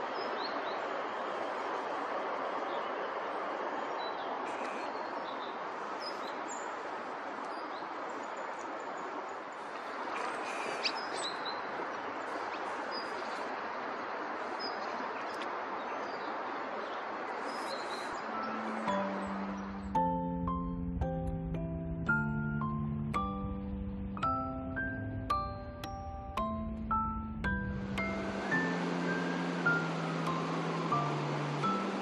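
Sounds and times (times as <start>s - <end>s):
steady rushing background noise: 0.0s - 21.0s, 23.2s - 32.0s
songbirds chirping: 0.0s - 32.0s.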